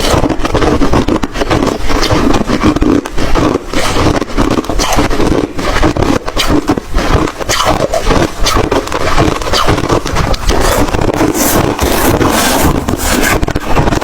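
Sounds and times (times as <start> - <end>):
ice being crushed and chewed: 0.0 - 14.0.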